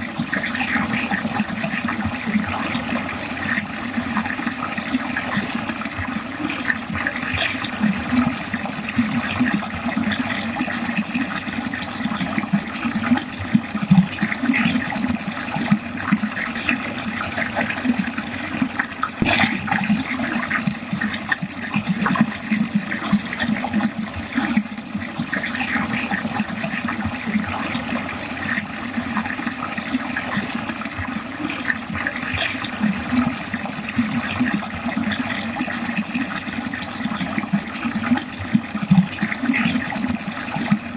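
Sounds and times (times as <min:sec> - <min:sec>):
water running into a drain: 0:00.0 - 0:40.9.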